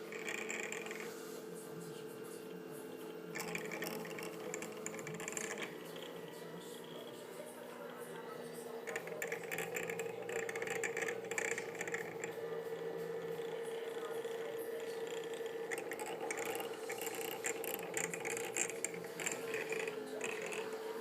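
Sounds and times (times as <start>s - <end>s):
steady printer hum: 0.0s - 21.0s
stepper motors whining: 0.0s - 21.0s.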